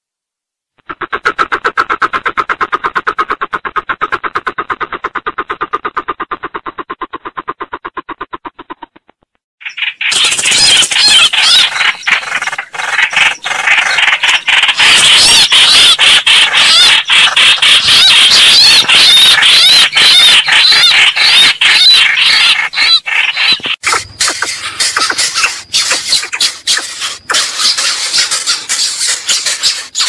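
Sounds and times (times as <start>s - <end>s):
bird calls rapid wavering squeals: 0.9s - 9.0s, 9.6s - 30.0s.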